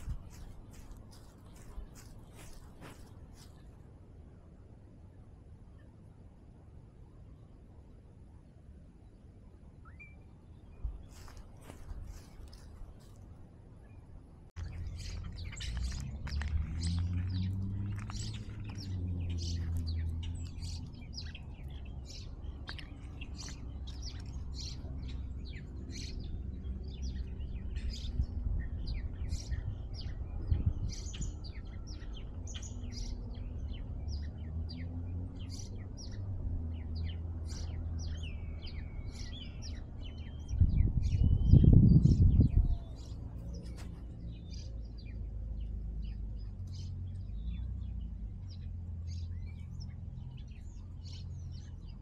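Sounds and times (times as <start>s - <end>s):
small birds chirping: 0.0s - 3.8s, 9.8s - 52.0s.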